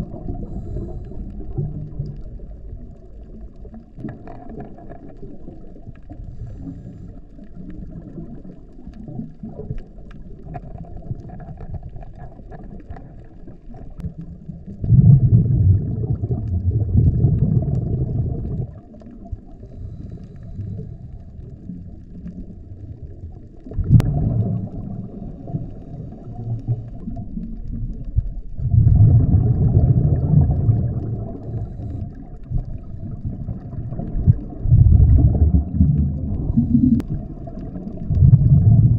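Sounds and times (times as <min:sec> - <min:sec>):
regulator bubbles underwater: 0:00.0 - 0:38.9.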